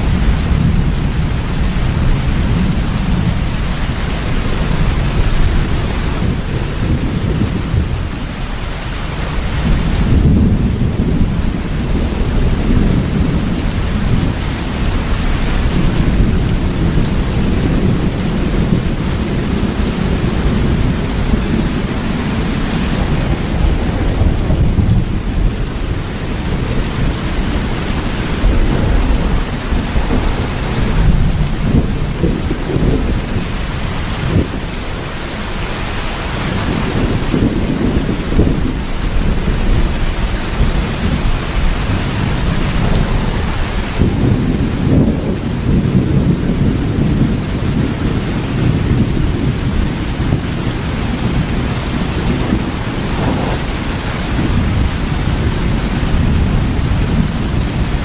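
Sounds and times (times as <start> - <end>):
deep rumble of thunder: 0.0 - 58.0
steady rain falling: 0.0 - 58.0.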